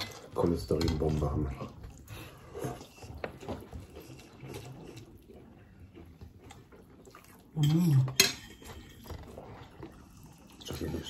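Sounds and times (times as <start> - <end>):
clicks and rustles of eating: 0.0 - 11.0.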